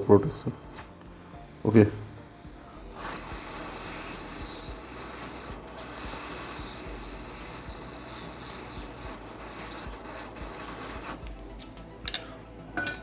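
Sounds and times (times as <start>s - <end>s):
hot air gun hissing: 0.0s - 11.4s.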